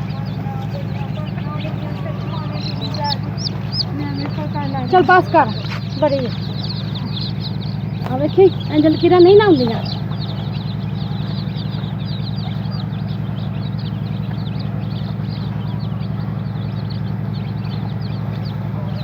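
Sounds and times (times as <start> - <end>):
chicks peeping: 0.0 - 19.0
low mechanical hum with throb: 0.0 - 19.0.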